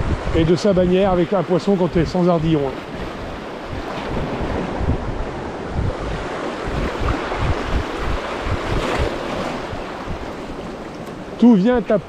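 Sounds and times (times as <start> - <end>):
sea waves washing on shore: 0.0 - 12.0
wind buffeting microphone: 0.0 - 12.0.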